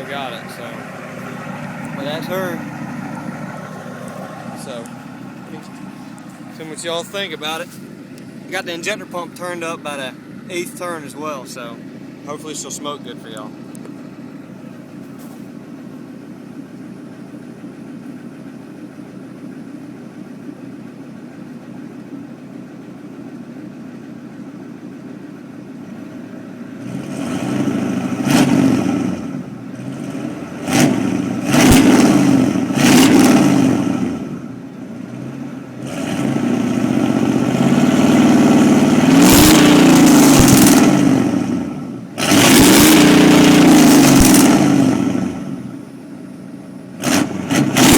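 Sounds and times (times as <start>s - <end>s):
diesel engine idling and revving: 0.0s - 47.9s.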